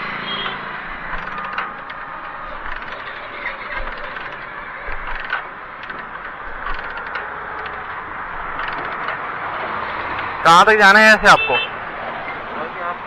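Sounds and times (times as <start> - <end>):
motorcycle kick-starter clicking: 0.0 - 10.7.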